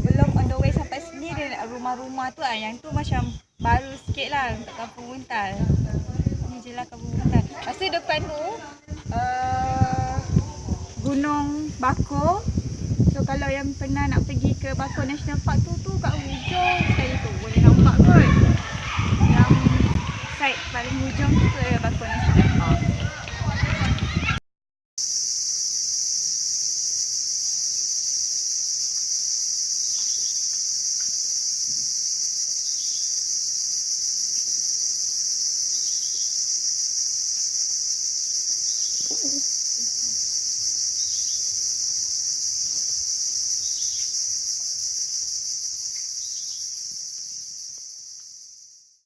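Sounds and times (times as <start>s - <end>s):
high-pitched insect chorus: 0.0s - 24.3s, 25.0s - 49.0s.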